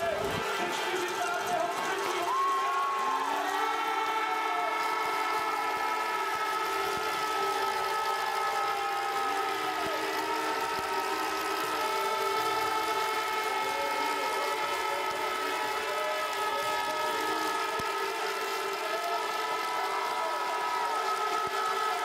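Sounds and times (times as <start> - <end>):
crowd cheering: 0.0 - 22.0.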